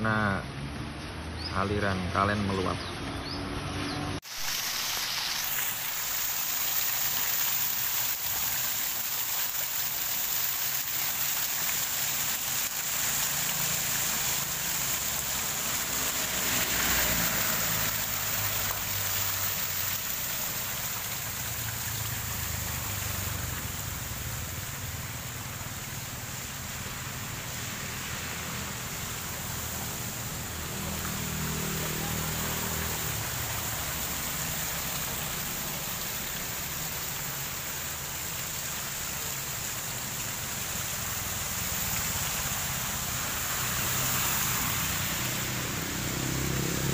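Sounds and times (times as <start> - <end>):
floodwater rushing over concrete: 0.7 - 46.9.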